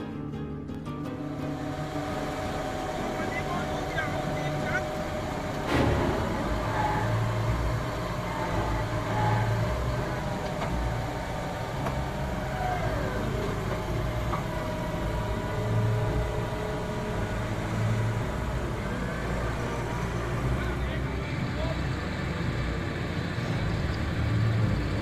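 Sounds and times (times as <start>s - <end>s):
diesel farm machinery running: 0.0s - 25.0s.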